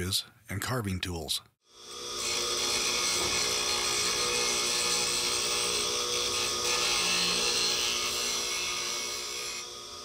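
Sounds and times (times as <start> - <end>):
grinder motor hum: 1.7 - 10.0
grinder wheel grinding steel: 1.7 - 10.0.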